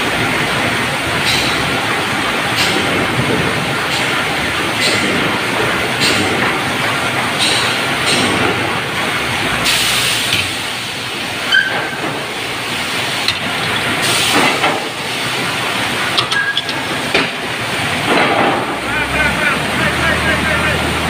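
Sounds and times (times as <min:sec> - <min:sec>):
sawmill log carriage running: 0:00.0 - 0:21.0.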